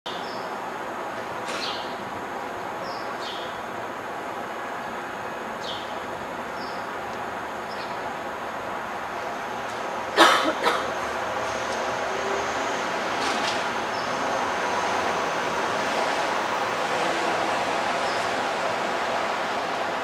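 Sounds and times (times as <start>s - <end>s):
city noise: 0.1s - 20.0s.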